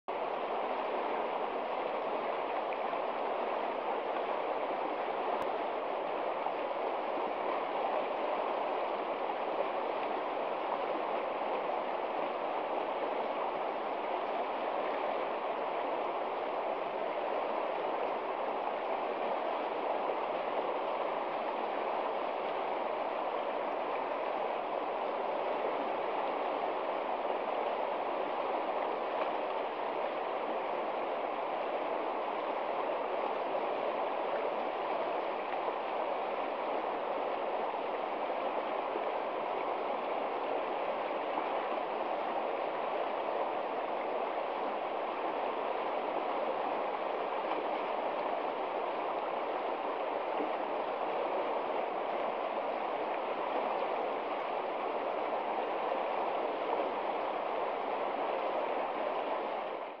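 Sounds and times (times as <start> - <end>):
river rushing over stones: 0.1 - 60.0.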